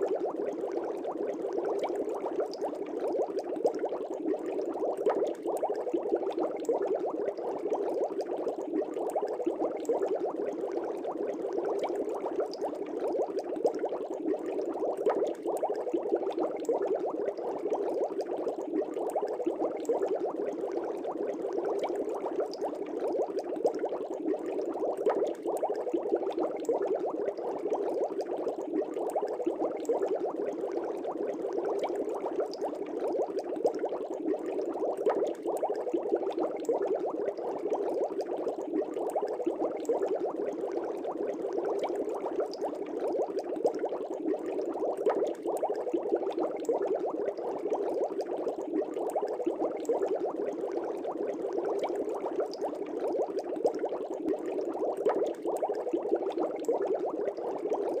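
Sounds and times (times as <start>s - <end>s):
fish tank water bubbling: 0.0s - 58.0s.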